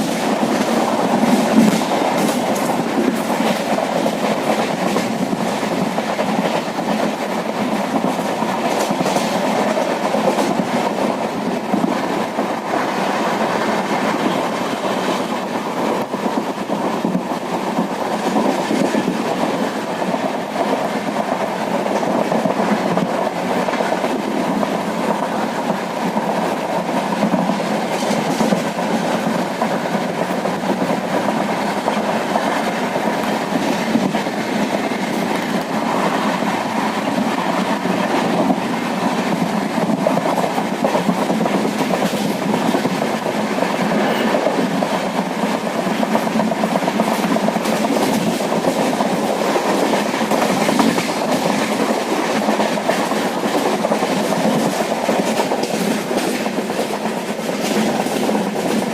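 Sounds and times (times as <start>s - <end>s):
train wheels on rails: 0.0s - 58.9s.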